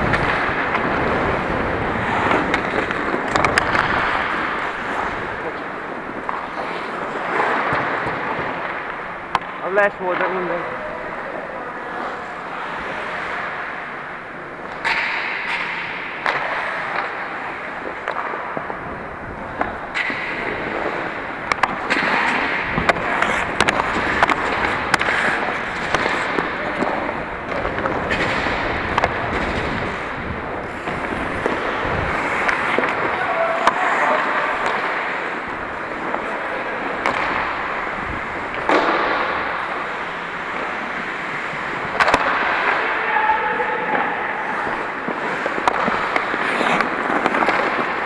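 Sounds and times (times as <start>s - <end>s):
hockey sticks and puck clacking: 0.0s - 48.0s
skates scraping on ice: 0.0s - 48.0s.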